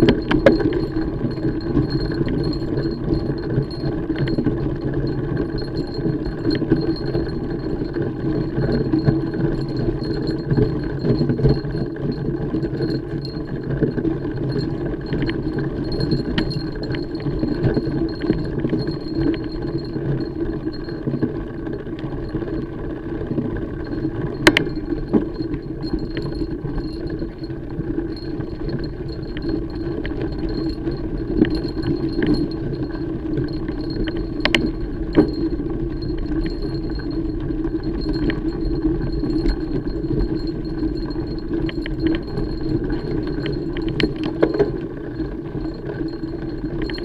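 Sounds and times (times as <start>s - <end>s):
bike chain rattling and clinking: 0.0s - 22.6s, 23.6s - 47.0s
bike tyres rumbling on trail: 0.0s - 47.0s.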